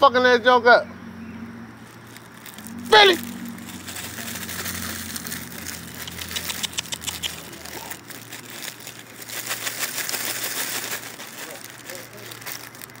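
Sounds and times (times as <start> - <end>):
packaging crinkling: 1.8 - 13.0.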